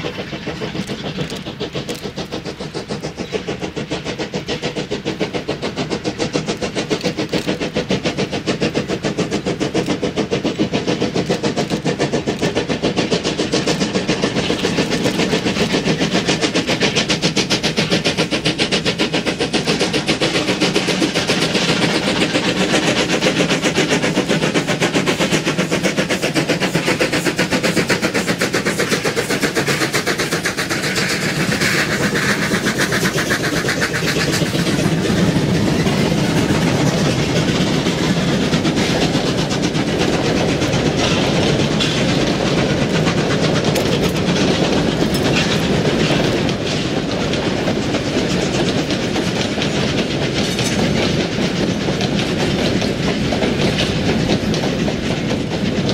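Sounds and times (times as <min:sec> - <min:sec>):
steam locomotive exhaust chuffing: 0:00.0 - 0:55.9
train wheels clacking on rails: 0:00.0 - 0:55.9.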